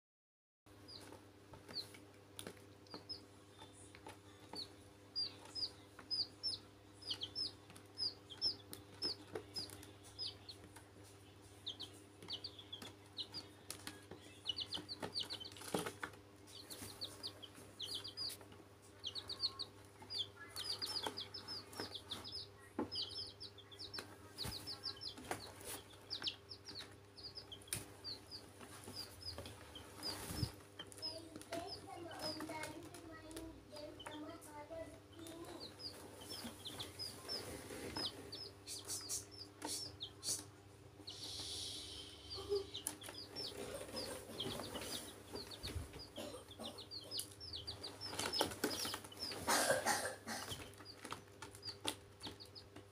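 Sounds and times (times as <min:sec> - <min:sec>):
chicks peeping: 0:00.7 - 0:52.9.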